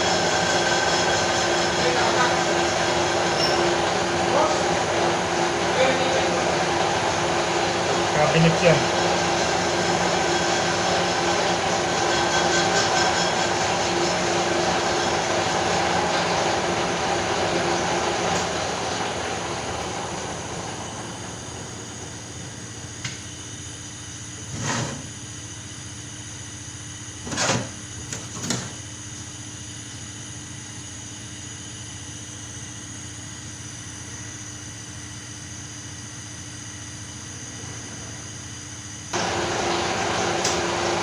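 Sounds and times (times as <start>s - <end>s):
machine hum: 0.0s - 24.5s, 28.8s - 41.0s.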